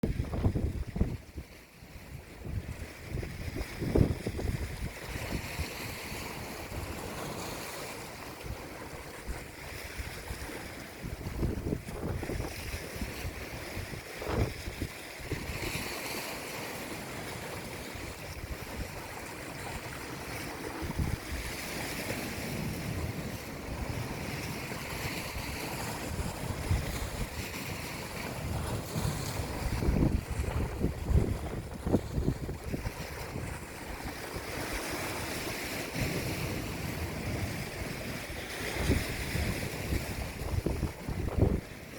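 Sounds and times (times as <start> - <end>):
wind gusting on microphone: 0.0 - 1.5, 2.1 - 7.4, 8.4 - 15.9, 17.9 - 41.9
sea waves washing on shore: 0.0 - 41.9.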